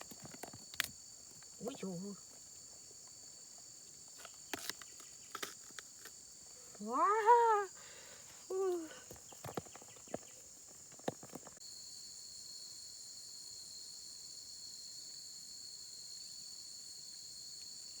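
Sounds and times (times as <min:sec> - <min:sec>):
higher steady insect tone: 0:00.0 - 0:18.0
insects droning: 0:00.0 - 0:18.0.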